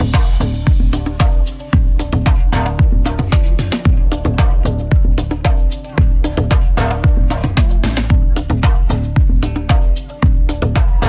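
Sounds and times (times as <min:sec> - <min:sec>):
held synth tones: 0:00.0 - 0:11.0
hi-hat ticks: 0:00.0 - 0:11.0
kick drum beat: 0:00.0 - 0:11.0.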